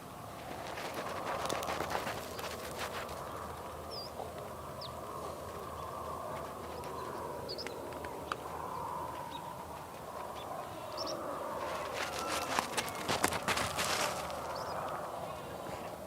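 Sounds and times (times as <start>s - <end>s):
clatter of hooves: 0.4s - 10.9s, 11.5s - 15.0s
sheep flock: 0.8s - 16.0s.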